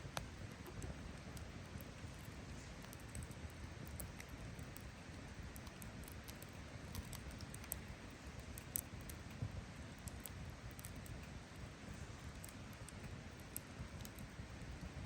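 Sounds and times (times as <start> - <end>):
campfire crackling: 0.0 - 15.0
low steady rumble: 0.0 - 15.0.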